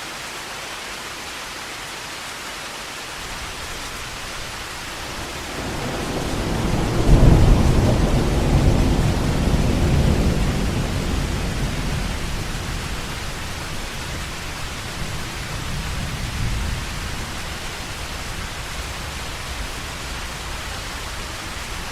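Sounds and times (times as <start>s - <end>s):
heavy rain hissing: 0.0s - 21.9s
thunder rumbling: 3.3s - 21.9s.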